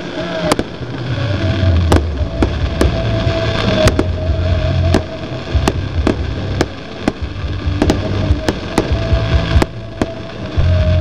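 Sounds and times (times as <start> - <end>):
firework shells bursting: 0.0 - 11.0
low rumble: 0.0 - 11.0.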